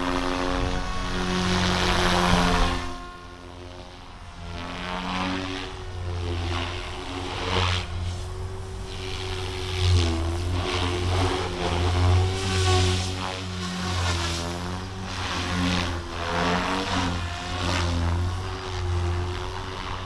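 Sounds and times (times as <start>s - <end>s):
rc helicopter motor and rotor hum: 0.0s - 20.0s.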